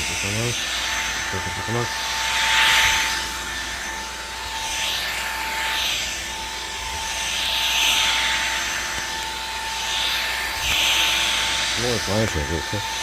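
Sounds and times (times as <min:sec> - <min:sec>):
stick vacuum on carpet: 0:00.0 - 0:13.0.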